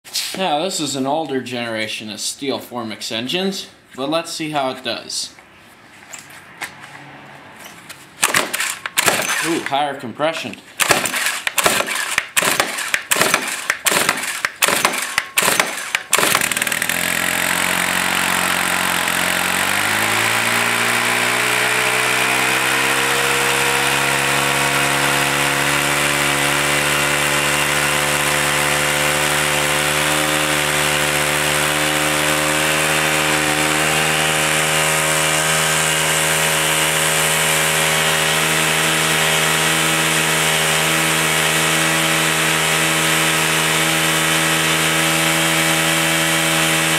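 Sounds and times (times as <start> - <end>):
brushcutter engine running: 8.2 - 9.8, 10.8 - 46.9
pull-start strokes: 8.2 - 9.8, 10.8 - 46.9.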